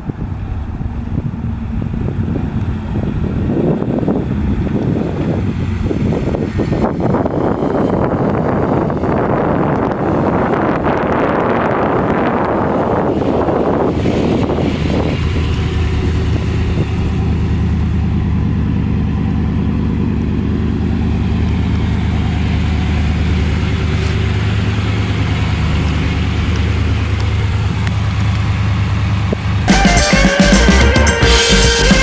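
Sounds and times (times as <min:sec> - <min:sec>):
car engine running steadily: 0:00.0 - 0:32.0.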